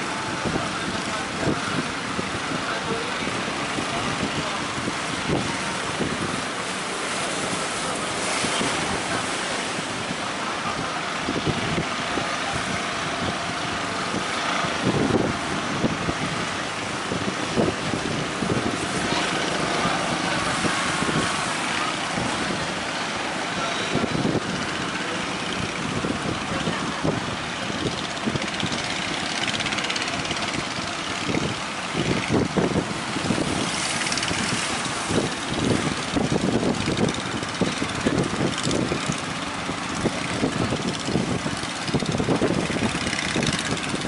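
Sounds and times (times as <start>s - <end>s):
boat engine running: 0.0s - 44.0s
breaking surf: 0.0s - 44.0s
wind on microphone: 0.0s - 44.0s.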